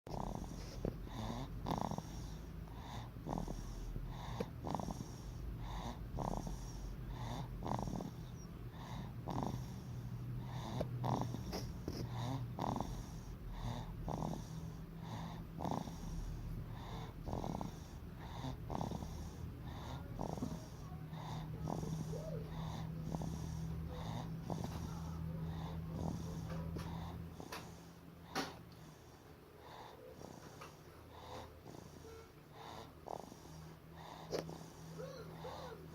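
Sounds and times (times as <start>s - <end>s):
baby snoring: 0.1s - 35.9s.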